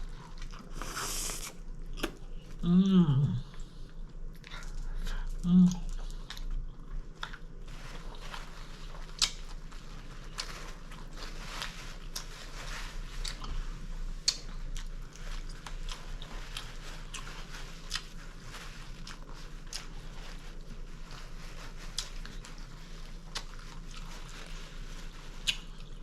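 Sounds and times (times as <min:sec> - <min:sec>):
close chewing with crunches: 0:00.0 - 0:26.0.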